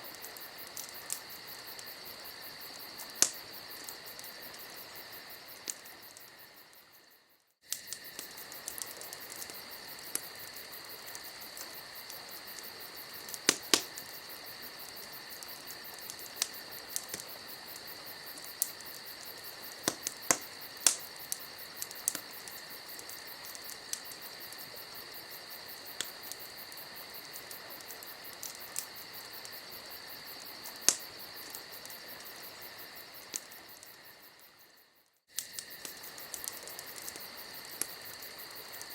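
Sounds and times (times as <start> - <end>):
burning wood crackling: 0.0 - 38.9
crickets chirring: 0.0 - 38.9.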